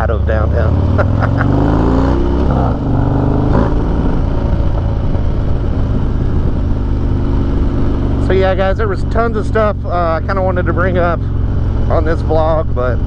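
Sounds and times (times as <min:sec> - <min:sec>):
motorcycle accelerating: 0:00.0 - 0:13.0.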